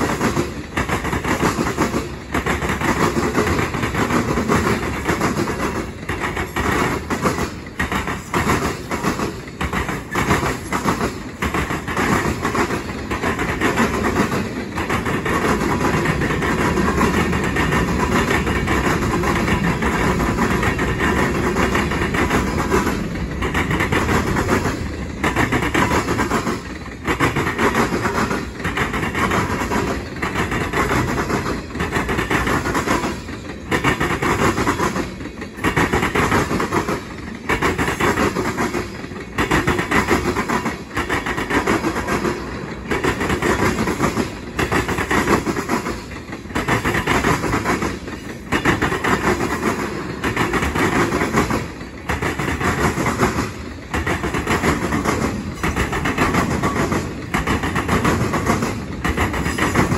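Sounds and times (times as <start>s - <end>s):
wheels clacking over track: 0.0s - 59.9s.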